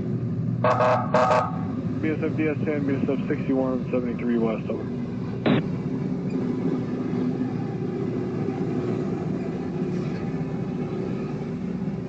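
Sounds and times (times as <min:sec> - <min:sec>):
railway machinery droning: 0:00.0 - 0:12.0.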